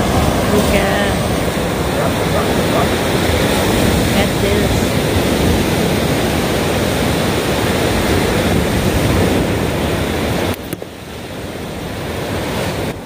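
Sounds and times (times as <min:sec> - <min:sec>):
surf washing onto beach: 0:00.0 - 0:13.0
wind rushing on microphone: 0:00.0 - 0:13.0.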